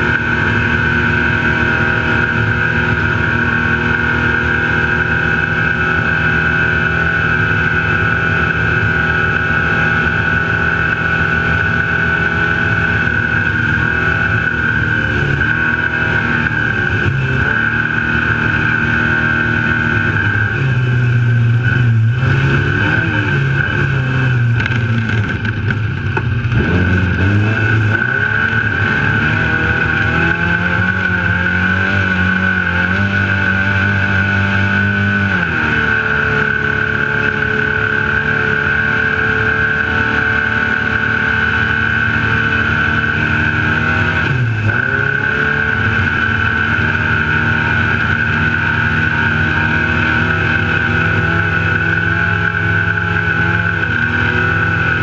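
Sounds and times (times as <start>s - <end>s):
rush of driving: 0.0s - 55.0s
truck engine revving: 0.0s - 55.0s.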